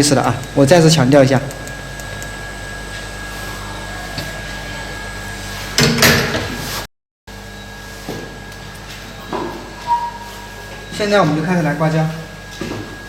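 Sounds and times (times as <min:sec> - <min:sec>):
hot air rework station humming: 0:00.0 - 0:13.0.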